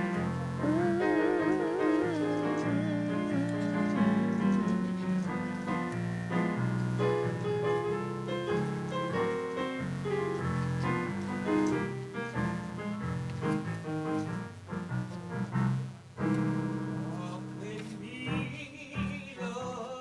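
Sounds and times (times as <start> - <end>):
slow piano chords and melody: 0.0 - 19.9.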